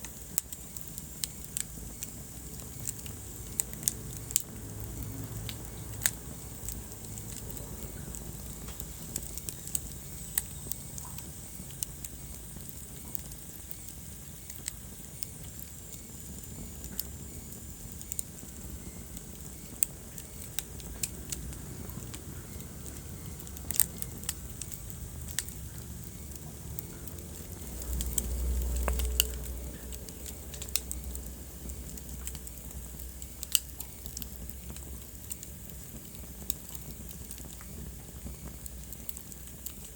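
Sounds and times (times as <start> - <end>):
steady hiss of burning: 0.0 - 39.9
wood fire crackling: 0.0 - 39.9.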